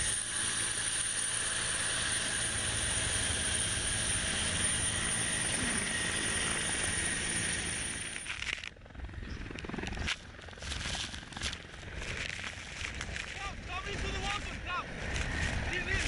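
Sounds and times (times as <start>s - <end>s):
helicopter rotor and engine noise: 0.0s - 16.0s.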